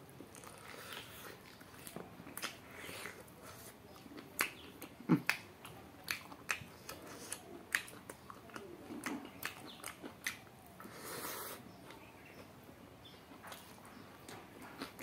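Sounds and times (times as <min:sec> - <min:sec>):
person chewing with open mouth: 0:00.2 - 0:12.0, 0:13.4 - 0:15.0.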